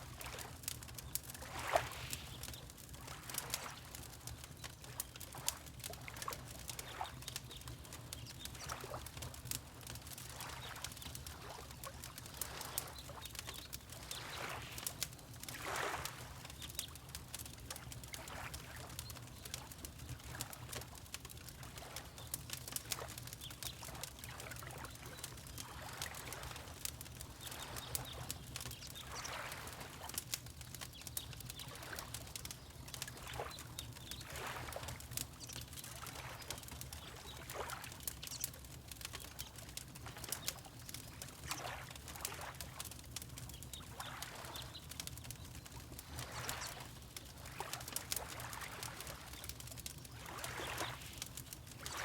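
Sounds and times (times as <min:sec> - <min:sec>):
water lapping gently: 0:00.0 - 0:52.0
wood fire crackling and popping: 0:00.0 - 0:52.0.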